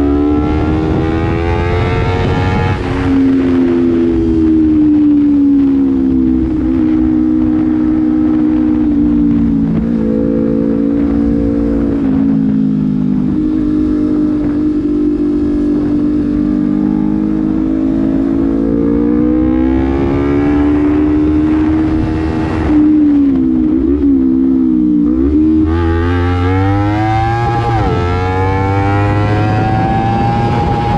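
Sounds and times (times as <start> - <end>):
motorcycle engine accelerating: 0.0 - 30.9
wind noise on microphone: 0.0 - 30.9.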